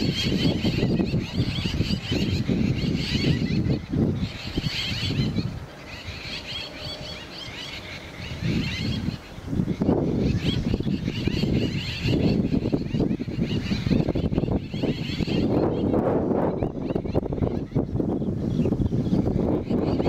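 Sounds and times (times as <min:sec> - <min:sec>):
birds chattering: 0:00.0 - 0:20.0.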